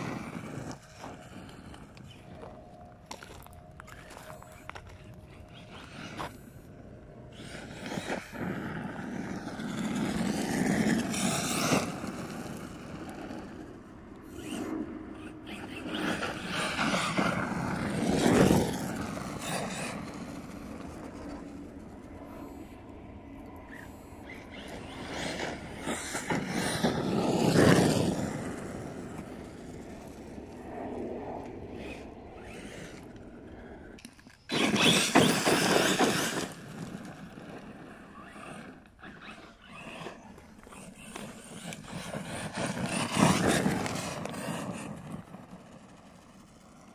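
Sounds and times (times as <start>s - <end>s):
tyres scraping gravel: 0.0s - 6.6s, 7.4s - 21.7s, 23.7s - 30.6s, 31.4s - 46.5s
electric motor whining: 0.0s - 22.6s, 23.5s - 30.6s, 31.4s - 45.2s.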